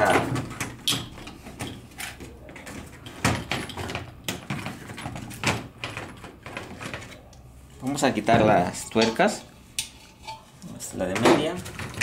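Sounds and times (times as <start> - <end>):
tools clicking and knocking: 0.0 - 7.5, 8.4 - 10.4, 11.1 - 12.0.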